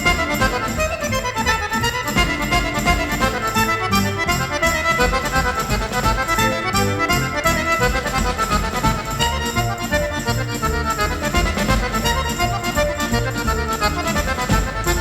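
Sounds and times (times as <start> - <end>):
accordion playing a tune: 0.0 - 15.0.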